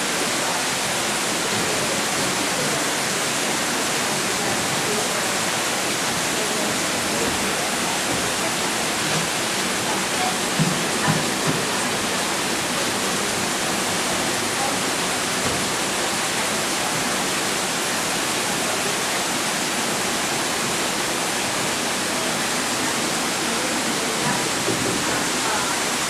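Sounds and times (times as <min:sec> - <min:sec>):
falling water rushing: 0:00.0 - 0:26.0.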